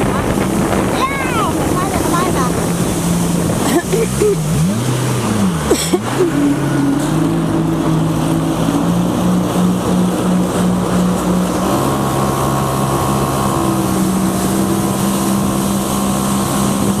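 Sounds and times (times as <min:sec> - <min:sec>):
high engine whine: 0:00.0 - 0:17.0
jet ski engine running: 0:00.0 - 0:17.0.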